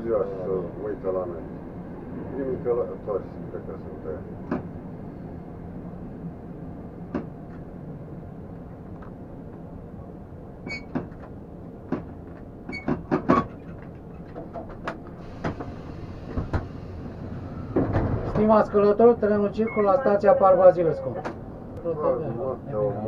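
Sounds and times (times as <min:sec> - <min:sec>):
metro train rumble: 0:00.0 - 0:23.0.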